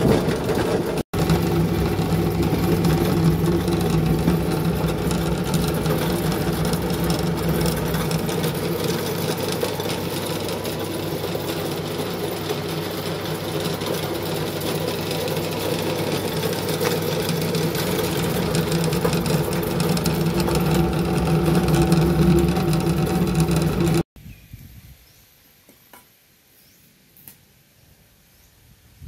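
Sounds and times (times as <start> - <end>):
pellet mill droning hum: 0.0 - 24.1.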